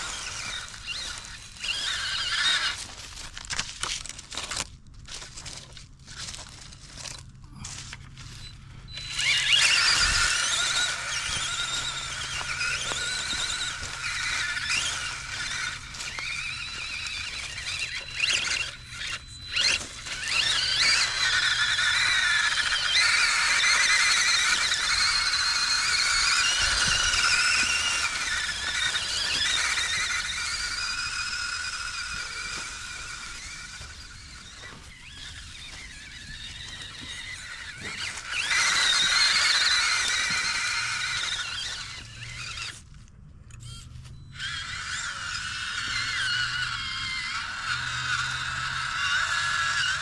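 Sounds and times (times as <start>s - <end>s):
electric motor and gearbox whining: 0.0s - 50.0s.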